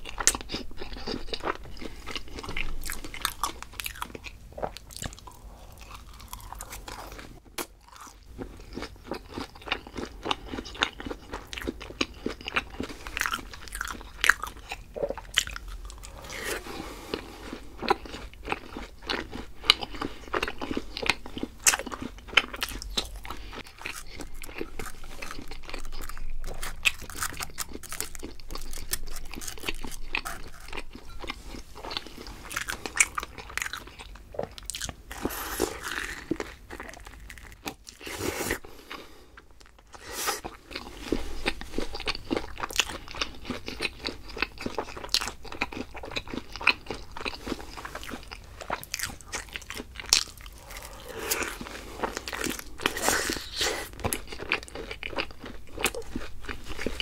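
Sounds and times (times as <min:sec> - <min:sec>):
crunching and chewing food: 0:00.0 - 0:57.0.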